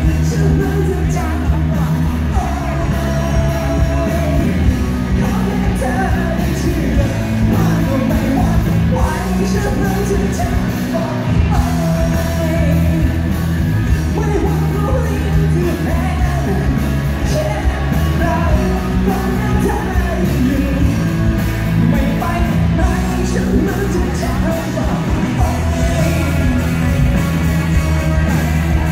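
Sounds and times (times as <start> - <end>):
live rock band playing: 0.0 - 28.9
man singing: 0.0 - 28.9.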